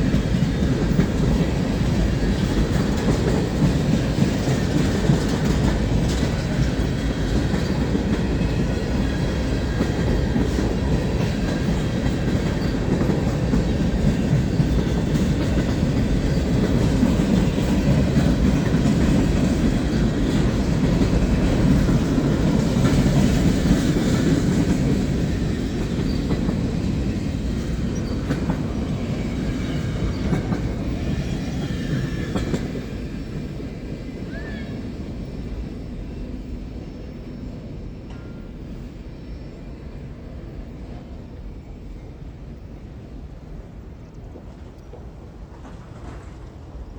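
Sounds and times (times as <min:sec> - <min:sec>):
freight train wheels rumbling: 0:00.0 - 0:46.9.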